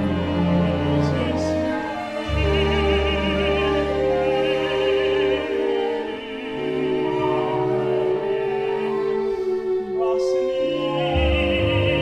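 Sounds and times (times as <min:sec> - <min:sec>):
operatic tenor singing: 0:00.0 - 0:12.0
symphony orchestra: 0:00.0 - 0:12.0.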